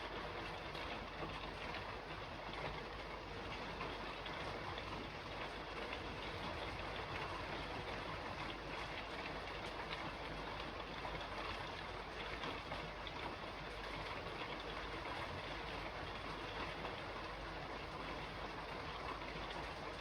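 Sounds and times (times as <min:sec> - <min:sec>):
rain falling on a roof: 0:00.0 - 0:20.0.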